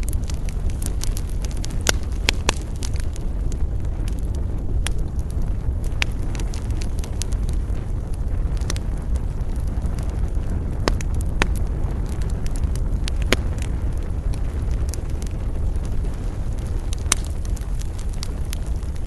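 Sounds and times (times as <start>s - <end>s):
fire low rumble: 0.0s - 19.0s
wood fire crackling and popping: 0.0s - 19.0s.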